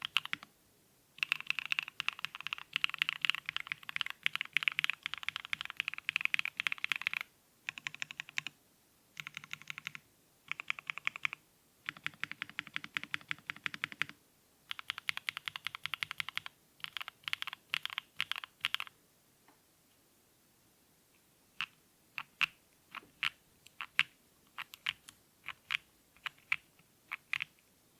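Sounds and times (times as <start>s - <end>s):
mechanical keyboard typing: 0.0s - 0.5s, 1.2s - 8.6s, 9.2s - 18.9s, 21.6s - 27.6s.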